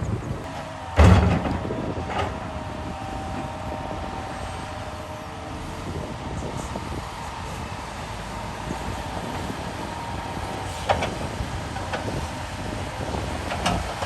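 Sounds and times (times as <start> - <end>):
heavy machinery running: 0.0 - 14.0.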